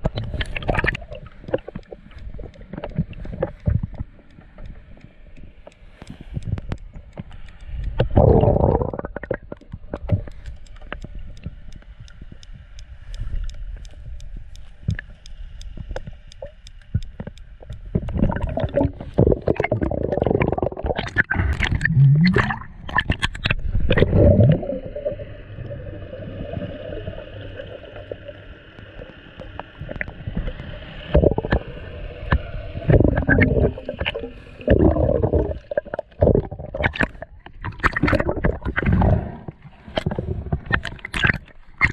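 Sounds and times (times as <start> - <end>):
faint sharp clicks: 0.0 - 24.0, 28.0 - 31.6, 32.2 - 41.9
underwater rushing and gurgling: 0.0 - 41.9.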